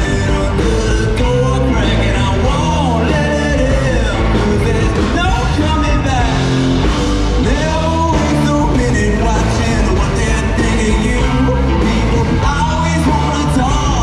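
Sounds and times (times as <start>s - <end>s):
person singing: 0.0s - 14.0s
rock band playing loudly: 0.0s - 14.0s.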